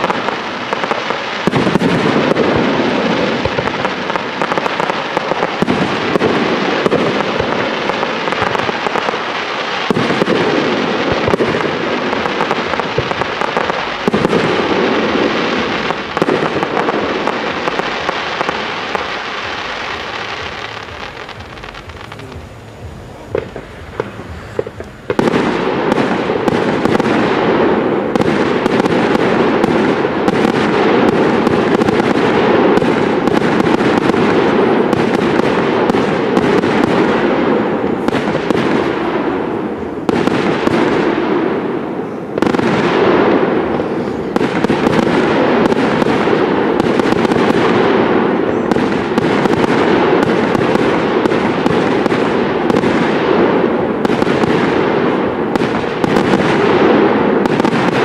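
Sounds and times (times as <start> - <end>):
fireworks bursting with bangs and crackle: 0.0 - 58.0.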